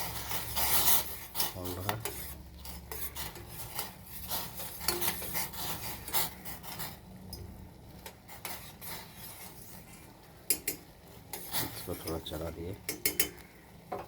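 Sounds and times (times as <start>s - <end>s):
gas stove hum: 0.0s - 14.0s
water boiling and bubbling: 0.0s - 14.0s.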